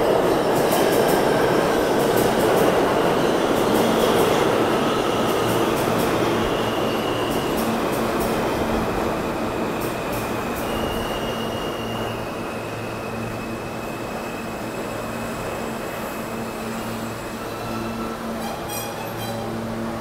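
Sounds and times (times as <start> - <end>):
subway train running on track: 0.0 - 20.0.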